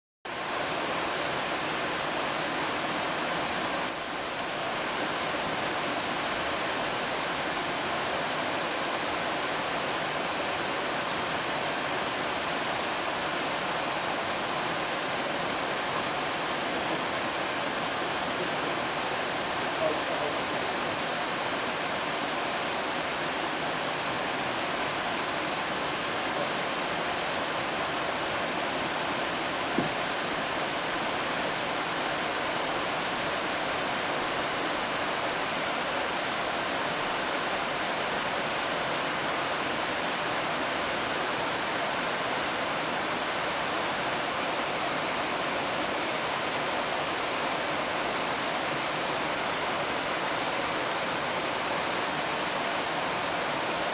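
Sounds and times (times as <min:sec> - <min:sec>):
stream rushing over rocks: 0:00.3 - 0:53.9.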